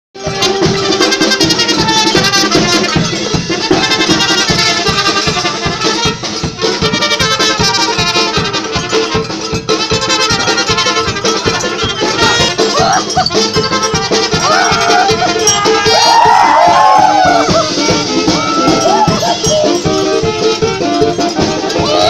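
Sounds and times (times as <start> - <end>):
brass band music: 0.2 - 22.0
steady drum beat: 0.2 - 22.0.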